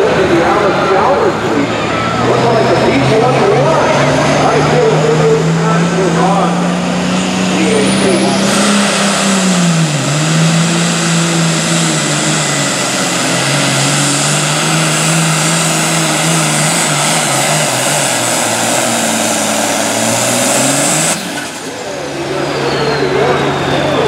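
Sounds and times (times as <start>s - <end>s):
tractor engine under full load: 0.0s - 24.0s.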